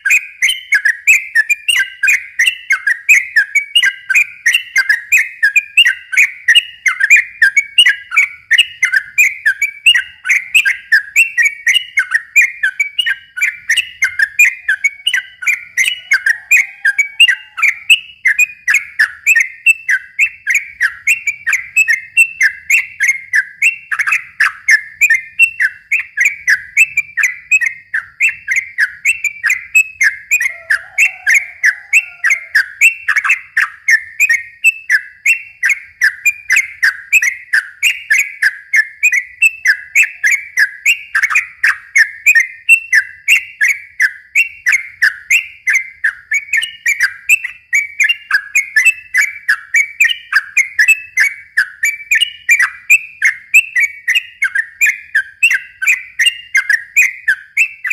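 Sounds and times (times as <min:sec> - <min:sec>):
bird singing whistled notes: 0:00.0 - 0:57.9.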